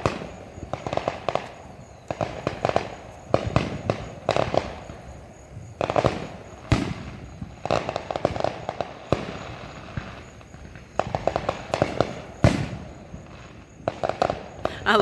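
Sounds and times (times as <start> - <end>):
crackling firework pops: 0.0 - 15.0
firework bangs: 0.0 - 15.0.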